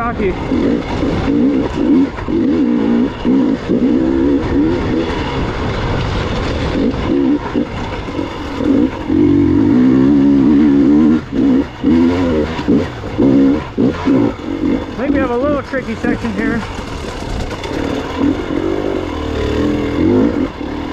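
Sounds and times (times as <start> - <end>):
two-stroke motorcycle engine revving: 0.0 - 20.9.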